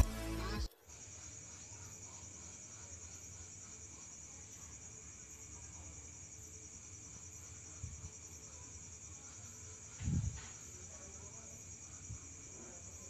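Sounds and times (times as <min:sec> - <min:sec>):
night insects trilling: 0:00.4 - 0:13.0.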